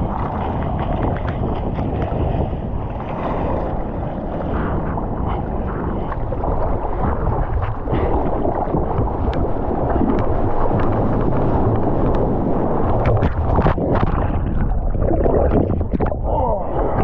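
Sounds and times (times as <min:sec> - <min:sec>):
seawater sloshing and splashing: 0:00.0 - 0:17.0
wind buffeting microphone: 0:00.0 - 0:17.0.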